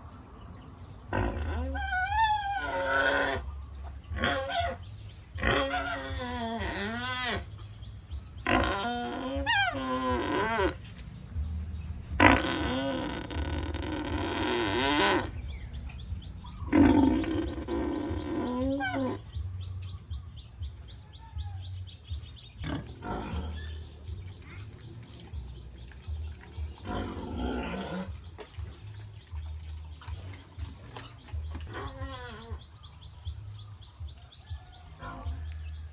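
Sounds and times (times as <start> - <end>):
pigs squealing: 1.1 - 11.0, 12.1 - 19.5, 22.0 - 34.0, 34.8 - 35.9.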